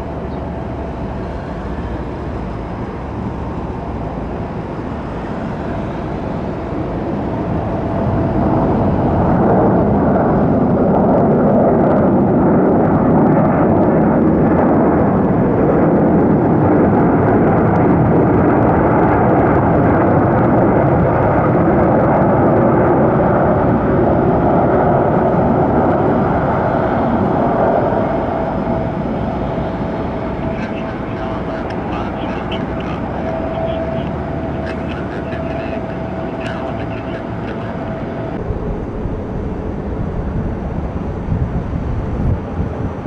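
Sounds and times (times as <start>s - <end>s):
aircraft engines passing: 0.0s - 43.0s.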